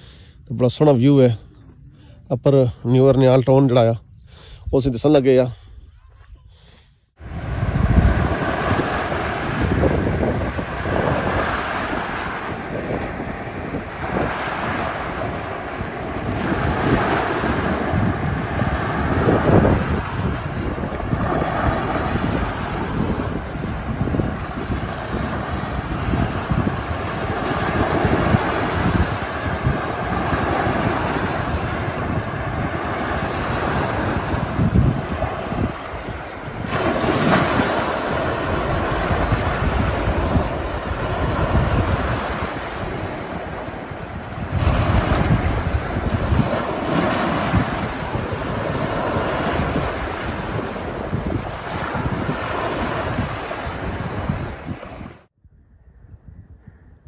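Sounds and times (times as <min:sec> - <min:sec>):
gusty wind on microphone: 0:00.0 - 0:57.0
waves breaking on shore: 0:07.2 - 0:55.3.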